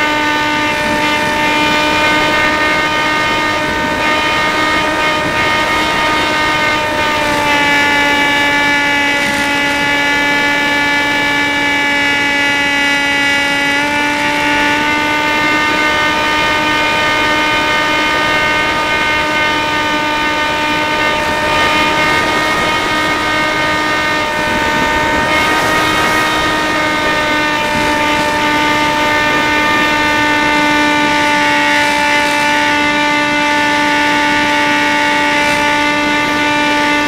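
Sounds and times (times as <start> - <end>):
model plane motor whine: 0.0 - 37.0.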